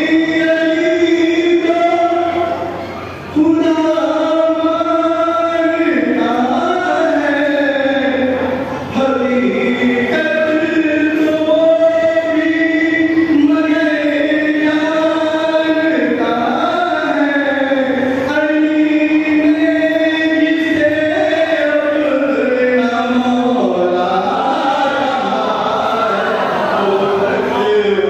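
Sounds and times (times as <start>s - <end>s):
person chanting held notes: 0.0s - 28.0s.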